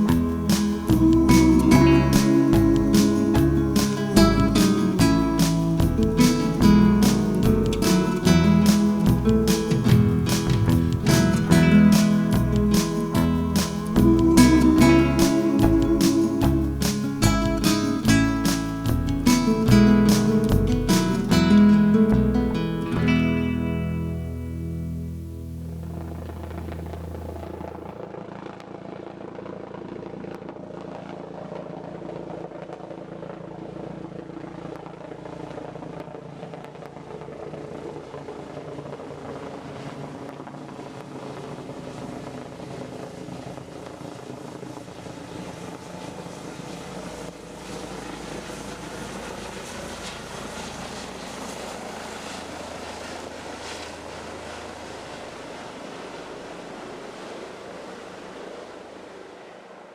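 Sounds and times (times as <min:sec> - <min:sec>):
helicopter engine and rotor drone: 0:00.0 - 0:22.4, 0:24.4 - 0:59.9.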